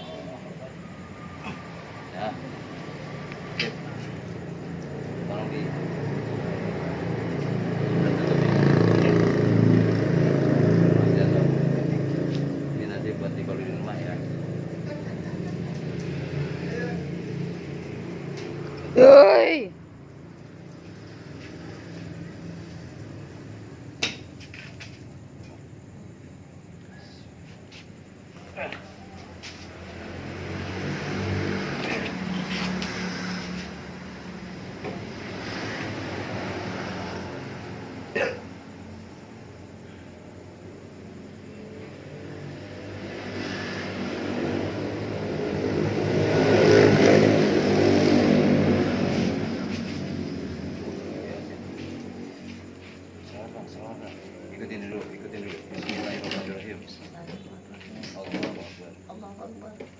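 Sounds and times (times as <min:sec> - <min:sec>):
passing vehicle engine: 0:00.0 - 0:59.7.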